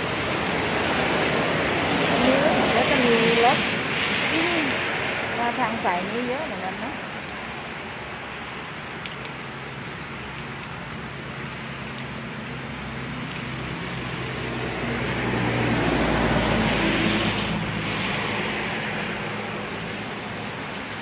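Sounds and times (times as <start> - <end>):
steady rain: 0.0 - 21.0
vehicle passing on wet road: 0.0 - 21.0.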